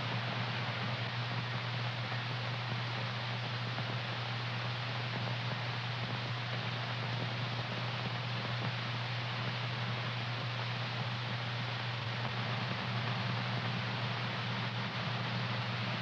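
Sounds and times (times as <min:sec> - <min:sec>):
constant low hum: 0:00.0 - 0:16.0
steady hiss: 0:00.0 - 0:16.0.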